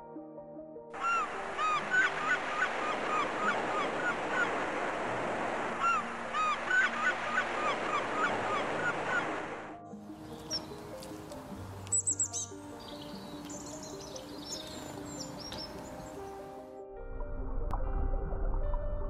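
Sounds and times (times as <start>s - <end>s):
music: 0.0s - 4.4s, 5.3s - 8.6s, 9.5s - 19.0s
gulls calling: 1.0s - 16.4s.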